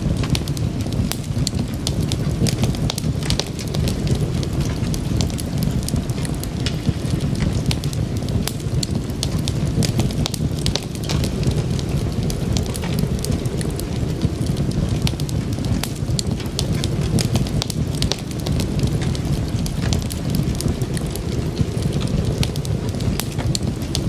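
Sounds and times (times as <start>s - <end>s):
burning logs crackling and popping: 0.0s - 24.0s
fire rumbling: 0.0s - 24.0s.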